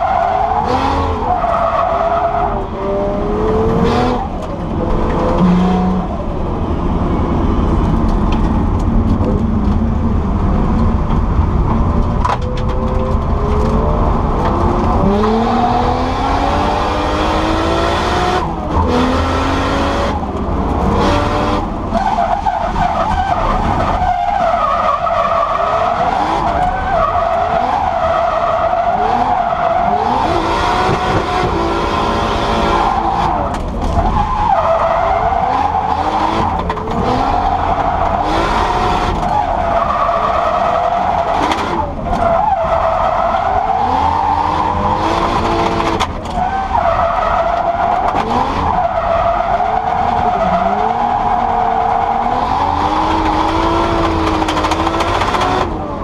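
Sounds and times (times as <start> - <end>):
car engine revving hard: 0.0 - 2.2, 2.8 - 6.2, 13.4 - 22.1, 25.2 - 56.0.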